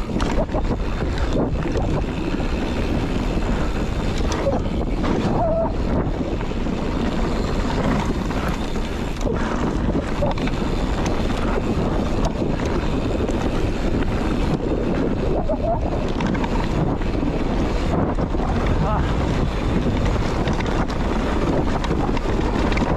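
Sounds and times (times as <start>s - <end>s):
bike tyres rumbling on dirt: 0.0s - 22.9s
wind buffeting microphone: 0.0s - 22.9s.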